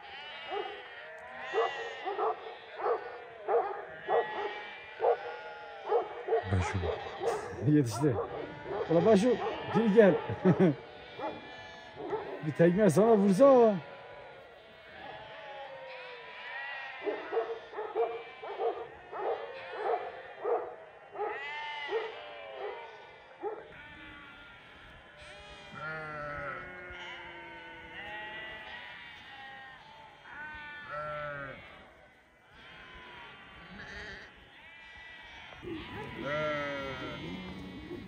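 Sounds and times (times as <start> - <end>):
sheep and lambs bleating: 0.0 - 38.0.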